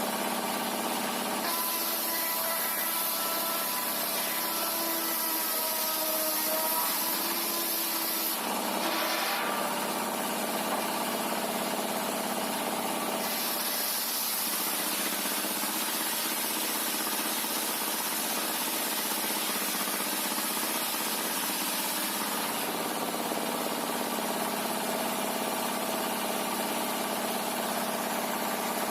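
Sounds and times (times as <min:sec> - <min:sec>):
sawmill machinery running: 0:00.0 - 0:28.9.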